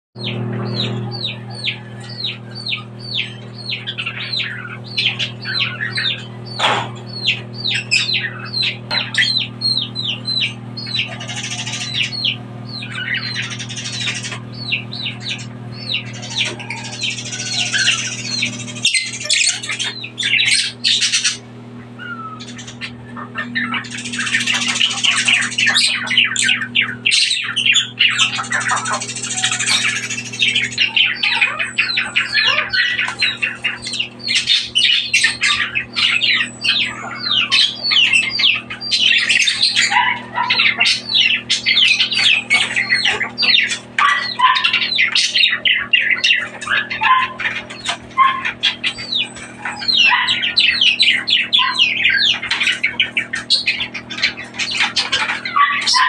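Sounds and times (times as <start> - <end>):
parrots chirping and squawking: 0.2 - 56.0
steady low hum: 0.2 - 56.0.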